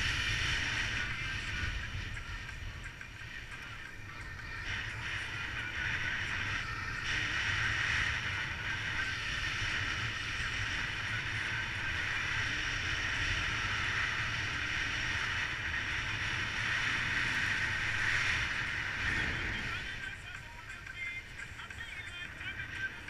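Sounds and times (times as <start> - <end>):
wind rushing over camera: 0.0 - 23.0.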